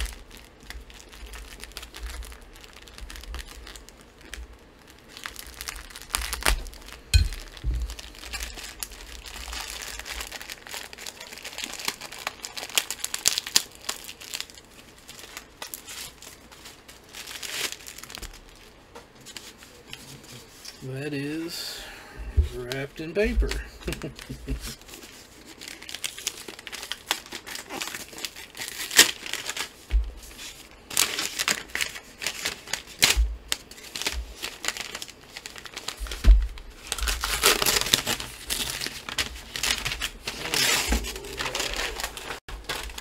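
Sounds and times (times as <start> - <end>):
plastic wrapping crinkling and tearing: 0.0 - 21.6, 22.5 - 43.0.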